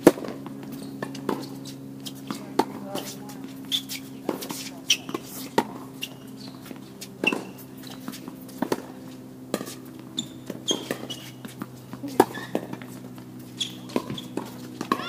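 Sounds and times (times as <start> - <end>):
steady low hum: 0.0 - 15.0
tennis balls struck and bouncing: 0.0 - 15.0.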